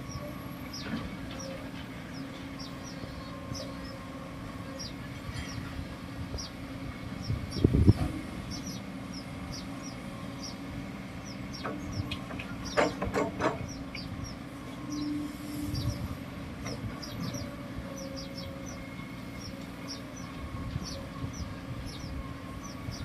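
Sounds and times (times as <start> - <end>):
bulldozer diesel engine: 0.0 - 23.0.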